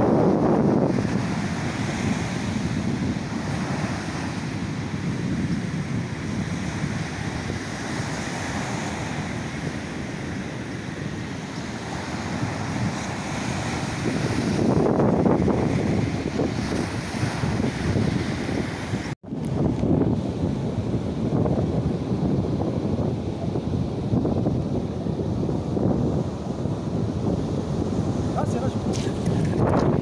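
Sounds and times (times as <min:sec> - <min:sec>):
sea waves: 0:00.0 - 0:30.0
wind buffeting microphone: 0:00.0 - 0:30.0.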